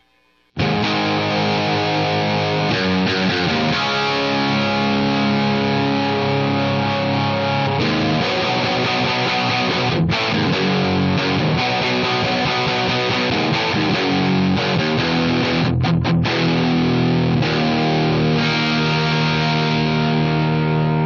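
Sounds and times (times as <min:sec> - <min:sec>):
electric guitar chords: 0:00.0 - 0:21.0.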